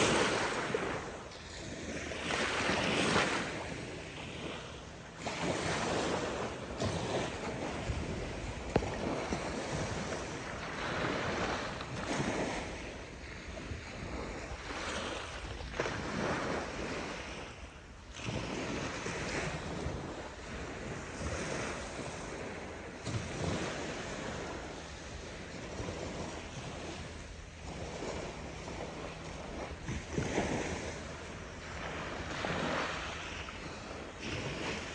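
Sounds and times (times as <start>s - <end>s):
small waves lapping on shore: 0.0s - 34.9s
wind on microphone: 0.0s - 34.9s.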